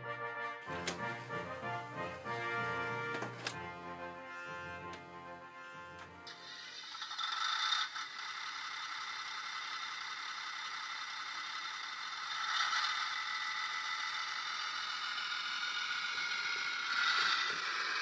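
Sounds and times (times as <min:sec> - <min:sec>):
model train motor whirring: 0:00.7 - 0:03.6, 0:06.2 - 0:18.0.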